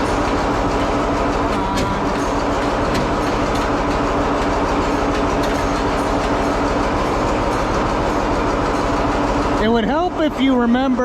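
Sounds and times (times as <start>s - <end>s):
tractor engine clattering: 0.0s - 11.0s.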